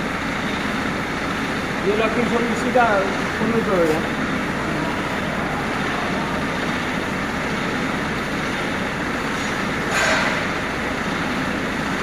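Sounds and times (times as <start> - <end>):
heavy machinery running: 0.0 - 12.0.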